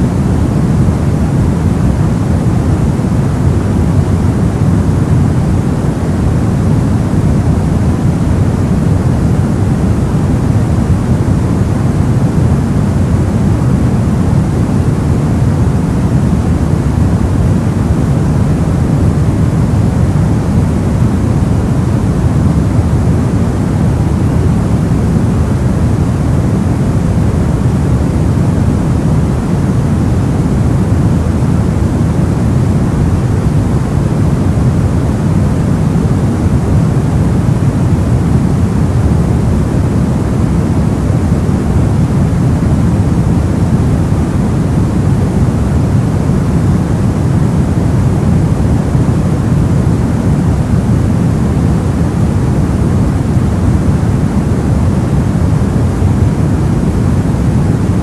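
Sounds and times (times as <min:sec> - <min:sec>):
deep white noise hiss: 0:00.0 - 0:58.0.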